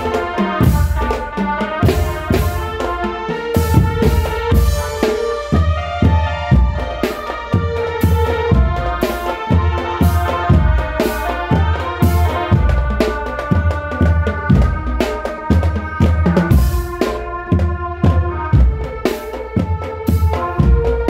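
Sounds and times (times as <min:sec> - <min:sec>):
heavy bass drum beat: 0:00.0 - 0:21.0
loud music: 0:00.0 - 0:21.0.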